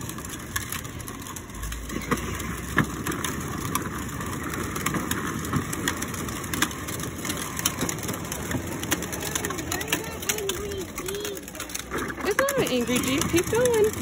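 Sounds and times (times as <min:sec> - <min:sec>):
clicks and crunches: 0:00.0 - 0:14.0
plastic wheels rolling on concrete: 0:00.0 - 0:14.0.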